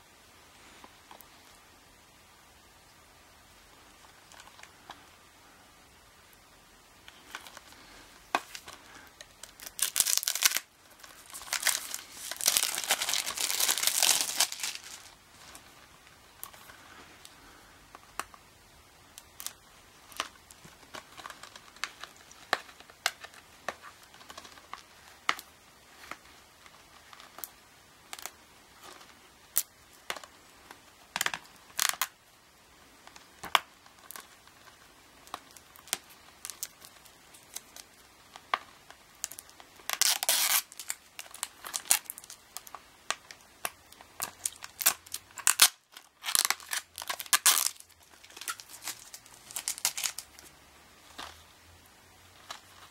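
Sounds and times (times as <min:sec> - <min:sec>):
plastic wrap crinkling: 0:07.0 - 0:18.4, 0:19.1 - 0:32.2, 0:33.1 - 0:52.9.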